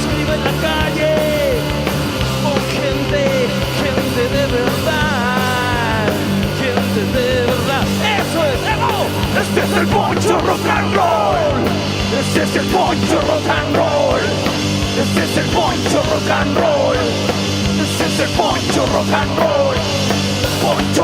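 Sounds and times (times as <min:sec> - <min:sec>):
punk rock band playing: 0:00.0 - 0:21.0
wavering lead guitar line: 0:00.0 - 0:21.0.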